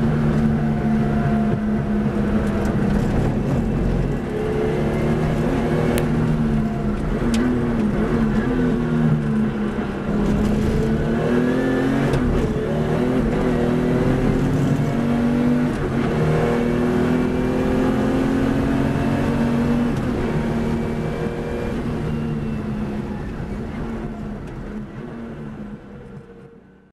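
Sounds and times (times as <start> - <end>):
racing car engine shifting gears: 0.0 - 25.3.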